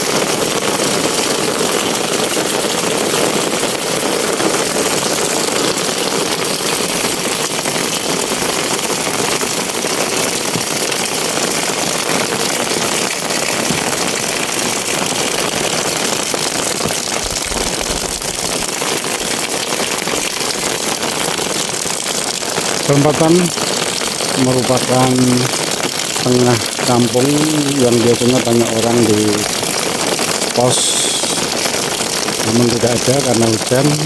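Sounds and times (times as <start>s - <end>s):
rain splashing on surfaces: 0.0s - 34.0s.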